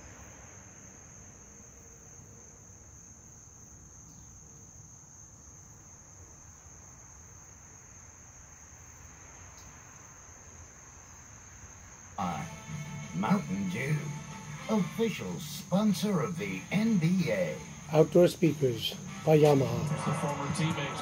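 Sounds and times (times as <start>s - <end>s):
high-pitched insect trill: 0.0s - 20.9s.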